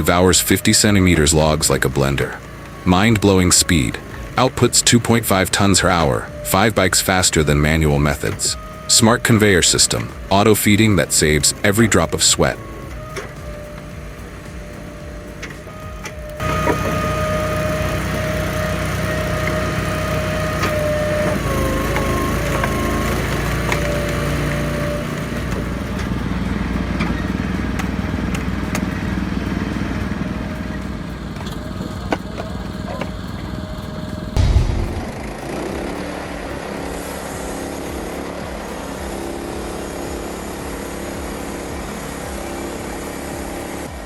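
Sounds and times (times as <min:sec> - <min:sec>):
firewood processor drone: 0:00.0 - 0:44.0.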